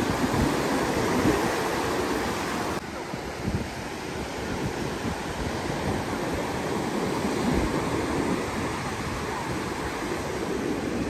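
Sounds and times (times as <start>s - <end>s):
surf washing up a shore: 0.0s - 11.0s
wind buffeting microphone: 0.0s - 11.0s.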